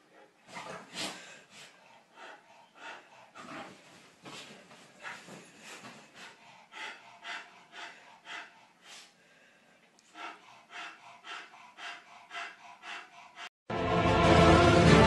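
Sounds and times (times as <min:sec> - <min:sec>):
dog breathing hard: 0:00.1 - 0:13.5.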